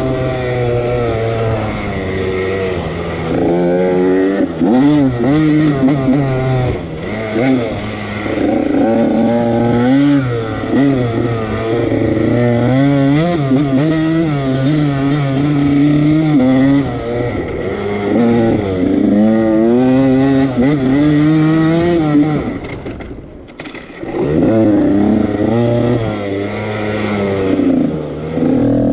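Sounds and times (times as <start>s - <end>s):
two-stroke engine revving: 0.0s - 28.9s.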